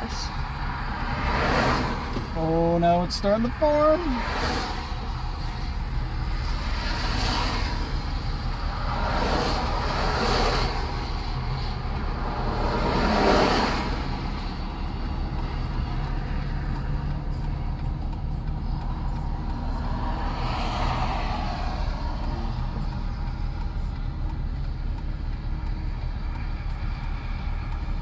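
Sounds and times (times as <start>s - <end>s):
low traffic rumble: 0.0s - 28.0s
vehicles passing by: 0.0s - 28.0s.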